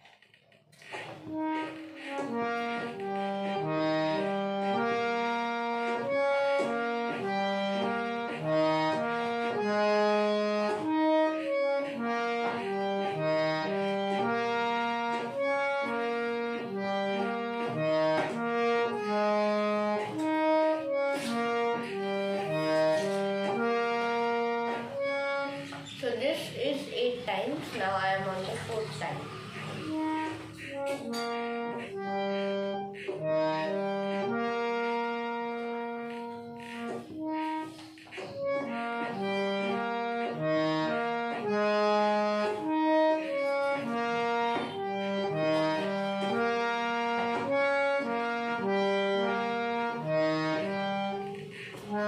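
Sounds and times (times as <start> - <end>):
harmonium melody: 0.7 - 52.0.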